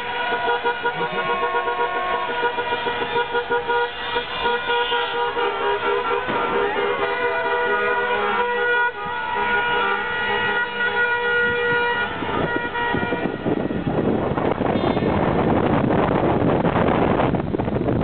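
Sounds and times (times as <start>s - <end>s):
car horns honking: 0.0s - 15.6s.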